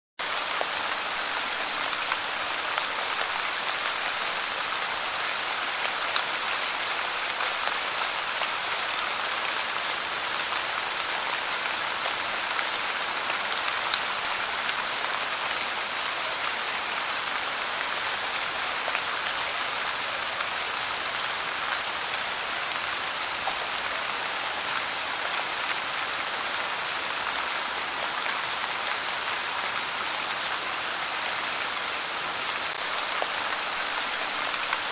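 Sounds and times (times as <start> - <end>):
light rain falling: 0.2 - 34.9.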